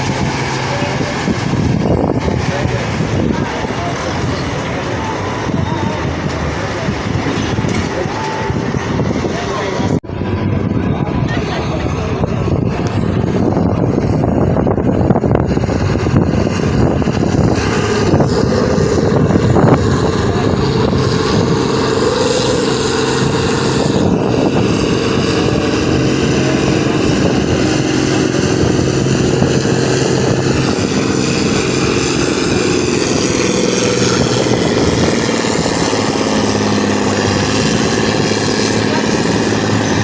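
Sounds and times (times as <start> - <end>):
tractor engine running hard: 0.0 - 40.0.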